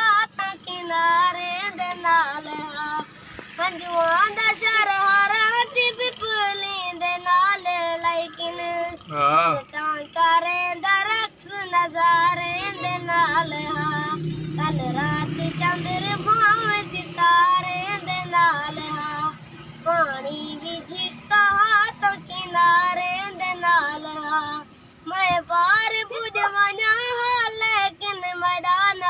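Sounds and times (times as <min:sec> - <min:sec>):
boy singing: 0:00.0 - 0:29.0.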